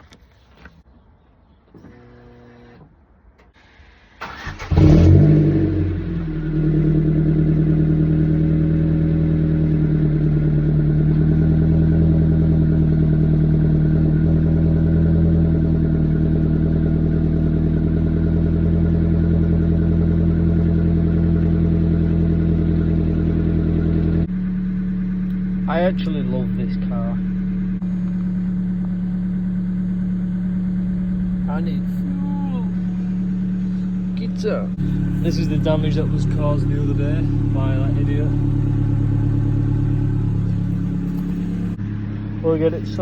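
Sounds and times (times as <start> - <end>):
car engine cranking: 4.2 - 43.0
car engine revving and idling: 4.2 - 43.0.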